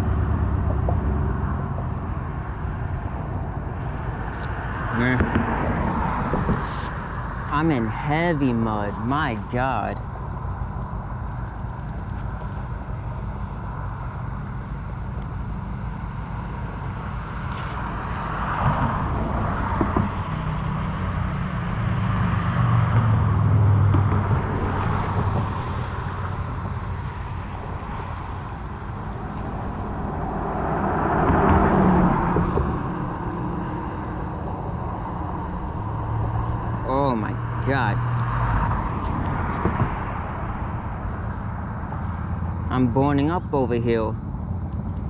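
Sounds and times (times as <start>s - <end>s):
cars passing: 0.0s - 45.0s
traffic rumble: 0.0s - 45.0s.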